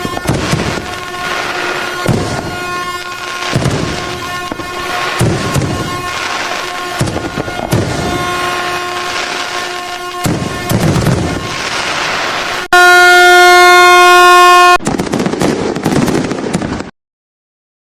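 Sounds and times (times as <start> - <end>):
fireworks crackling and popping: 0.0 - 12.9, 14.2 - 16.9
air horn tone: 0.0 - 14.8.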